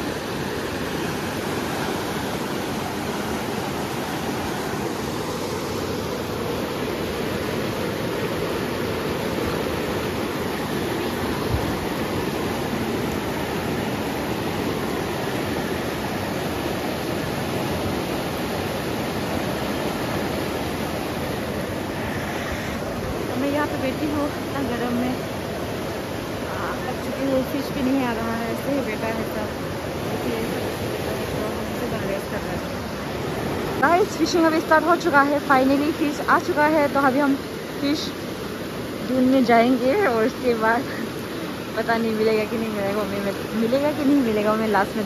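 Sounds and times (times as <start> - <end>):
river rapids rushing: 0.0 - 45.0.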